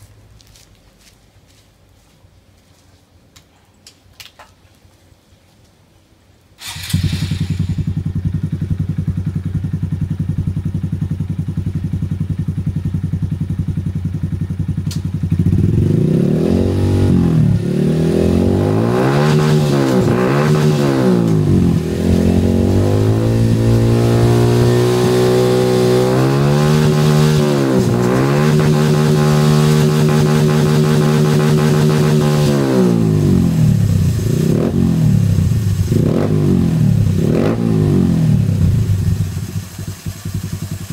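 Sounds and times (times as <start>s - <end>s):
motorcycle engine idling and revving: 6.6s - 40.9s.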